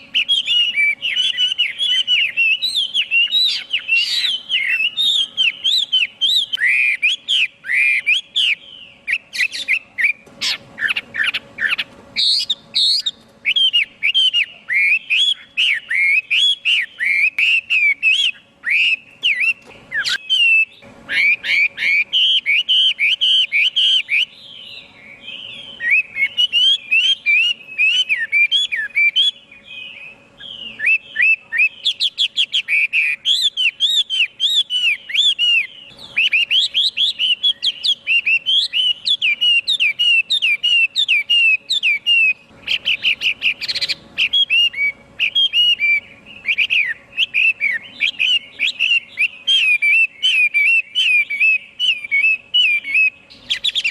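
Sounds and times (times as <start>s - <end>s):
bird singing whistled notes: 0.0s - 53.9s.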